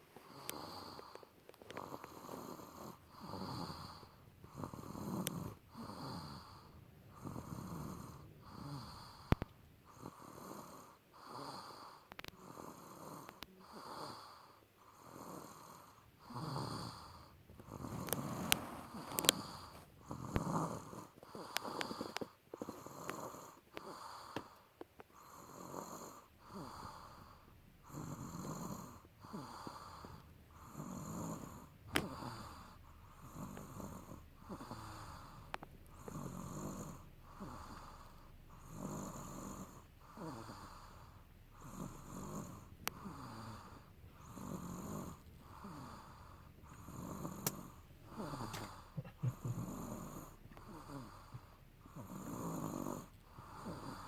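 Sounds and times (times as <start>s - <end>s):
person snoring: 0.2s - 24.6s, 25.2s - 54.0s.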